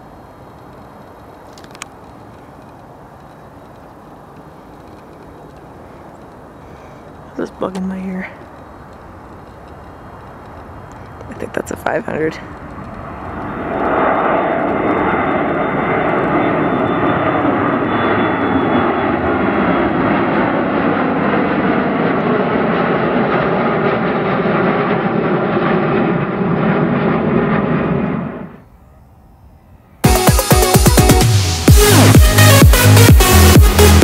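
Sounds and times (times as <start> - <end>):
high jet whine: 0.0 - 34.0
jet engines at takeoff: 0.0 - 34.0.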